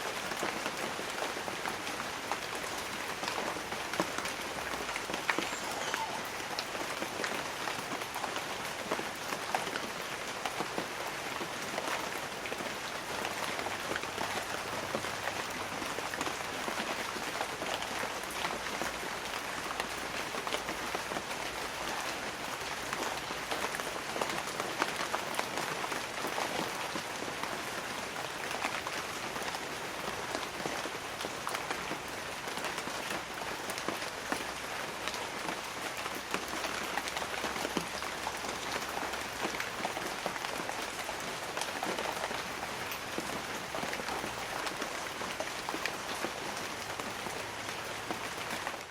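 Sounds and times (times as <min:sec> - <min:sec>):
rain on leaves: 0:00.0 - 0:48.9.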